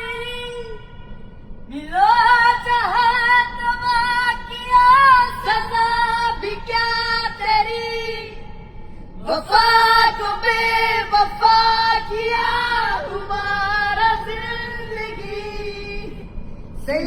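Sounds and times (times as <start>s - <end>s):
woman singing: 0.0s - 0.9s, 1.7s - 8.5s, 9.2s - 17.0s.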